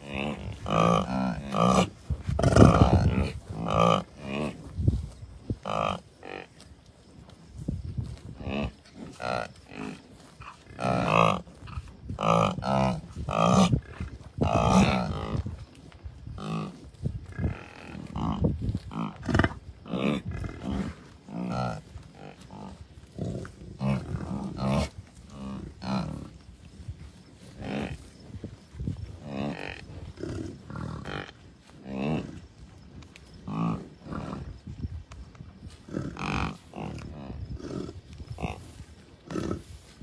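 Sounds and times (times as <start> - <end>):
wind buffeting microphone: 1.4 - 6.1, 6.9 - 10.7, 11.4 - 21.2, 22.7 - 40.0.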